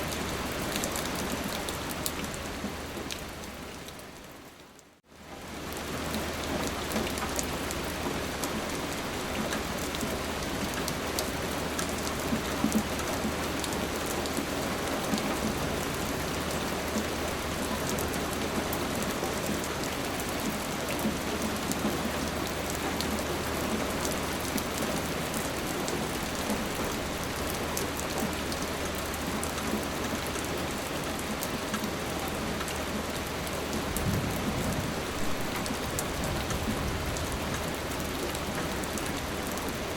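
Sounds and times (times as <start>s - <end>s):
raindrops pattering on a surface: 0.0s - 39.9s
steady rain: 0.0s - 39.9s.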